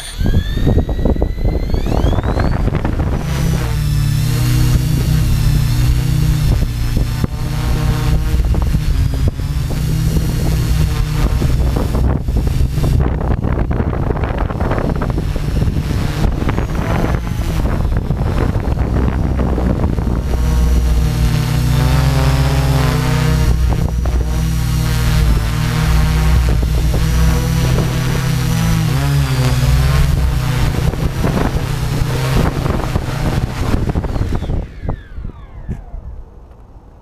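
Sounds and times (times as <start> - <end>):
wind rush on microphone: 0.0 - 36.4
drone motors whirring: 0.0 - 37.0.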